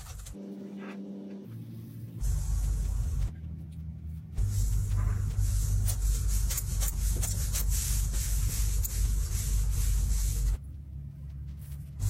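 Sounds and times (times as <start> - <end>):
steady low bass: 0.4 - 12.0.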